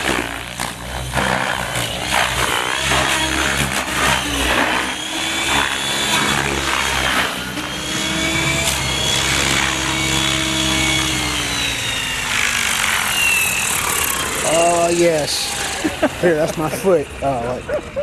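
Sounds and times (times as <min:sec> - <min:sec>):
rc helicopter rotor whining: 0:00.0 - 0:18.0.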